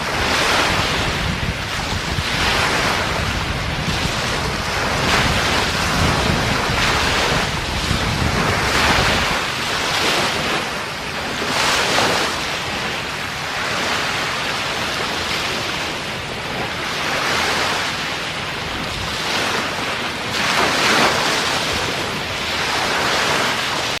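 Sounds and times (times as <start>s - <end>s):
ocean surf breaking: 0.0s - 24.0s
wind rumbling on microphone: 0.0s - 24.0s.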